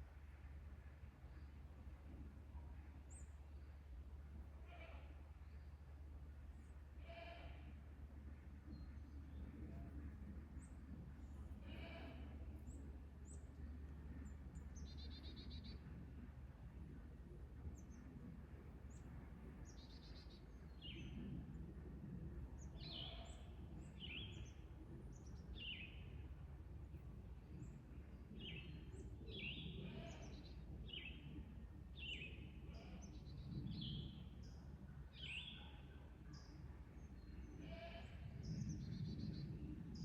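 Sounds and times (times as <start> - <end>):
steady low rumble: 5.3 - 35.2, 35.9 - 40.0.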